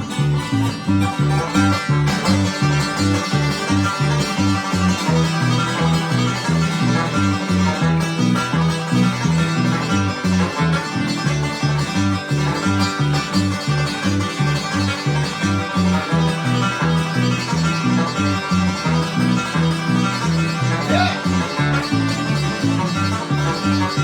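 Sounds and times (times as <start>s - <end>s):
alternating bass line: 0.0s - 24.0s
guitar: 0.0s - 24.0s
picked banjo: 0.0s - 24.0s.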